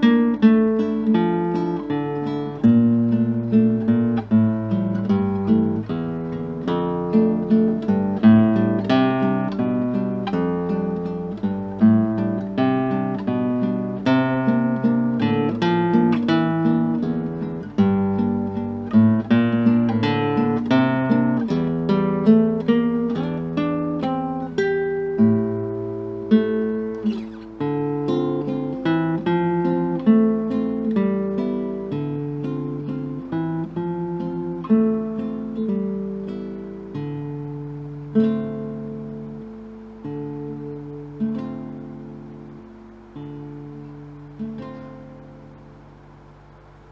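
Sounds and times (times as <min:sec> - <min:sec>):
acoustic guitar music: 0:00.0 - 0:46.9.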